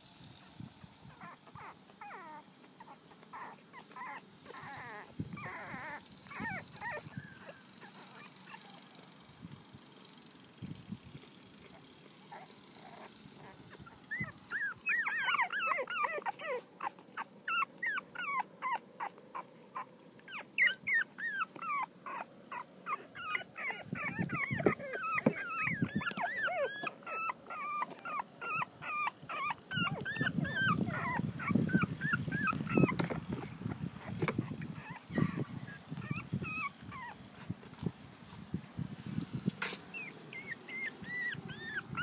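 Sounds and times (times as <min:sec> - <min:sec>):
puppies whimpering and squeaking: 0:00.8 - 0:09.6, 0:11.6 - 0:38.5, 0:39.2 - 0:42.0.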